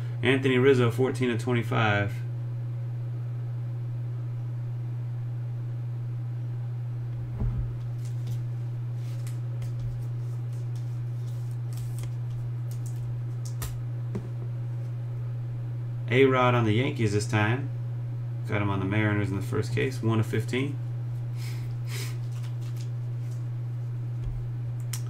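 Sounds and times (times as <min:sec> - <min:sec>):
low hum: 0:02.1 - 0:25.0.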